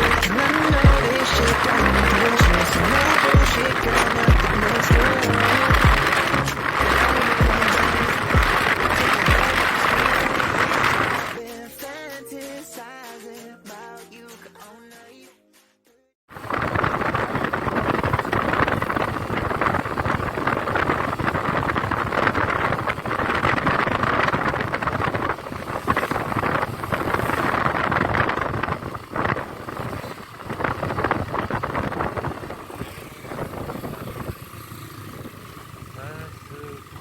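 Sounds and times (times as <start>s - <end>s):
motorcycle engine running: 0.0s - 11.4s, 16.4s - 37.0s
wind buffeting microphone: 0.0s - 11.4s, 16.3s - 36.4s.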